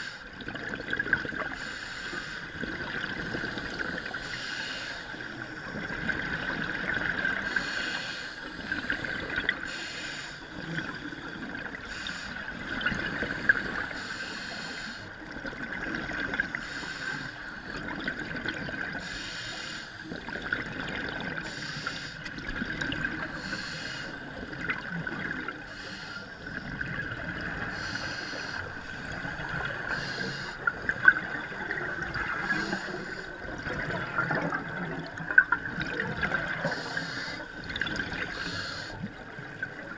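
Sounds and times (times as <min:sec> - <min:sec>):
underwater bubbles: 0:00.0 - 0:39.9.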